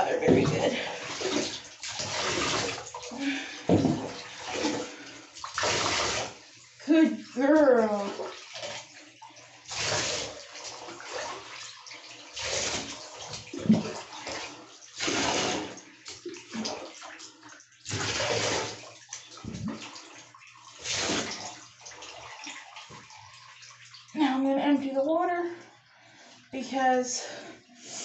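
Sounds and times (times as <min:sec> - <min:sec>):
water splashing into bathtub: 0:00.0 - 0:28.0.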